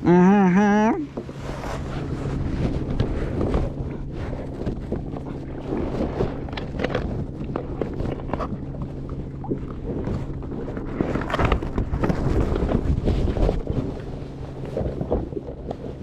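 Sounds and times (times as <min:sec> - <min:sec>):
steady low hum: 0:00.0 - 0:16.0
wind buffeting microphone: 0:01.0 - 0:16.0.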